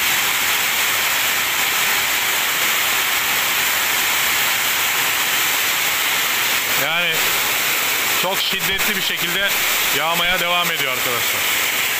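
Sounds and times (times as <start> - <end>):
heavy rain on a metal roof: 0.0 - 11.9.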